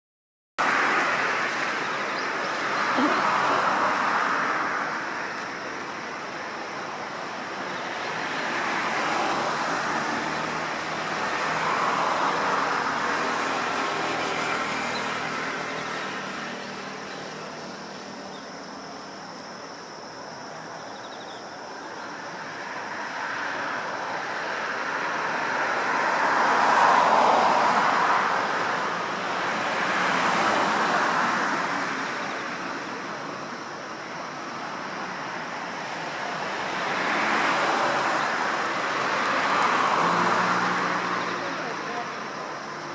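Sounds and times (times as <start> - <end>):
vehicles passing: 0.6 - 42.9.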